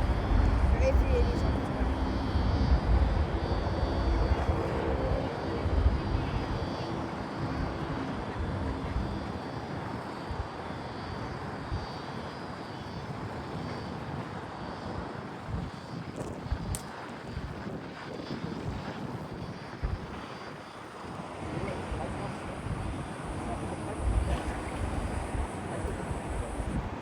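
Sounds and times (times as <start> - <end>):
jet airliner engines rumbling: 0.0 - 27.0.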